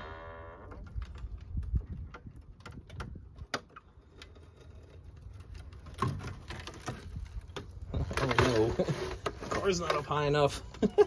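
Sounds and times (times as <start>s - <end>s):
metallic clicks and creaks: 0.0s - 10.9s.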